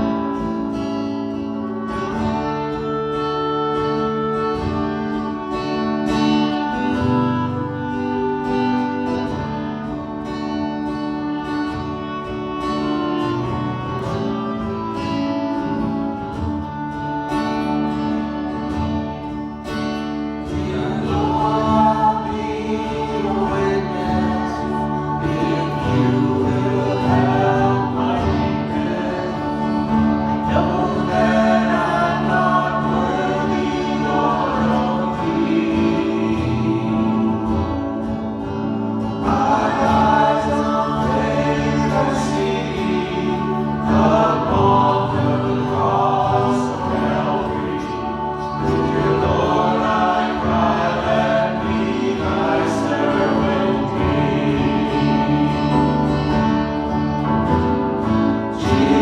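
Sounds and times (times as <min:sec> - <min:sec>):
group of voices singing: 0:00.0 - 0:59.0
held instrumental chords: 0:00.0 - 0:59.0.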